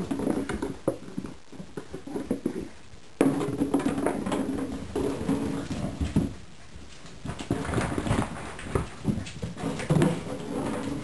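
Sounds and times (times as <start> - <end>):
puppy paws pattering on tile: 0.0 - 11.0.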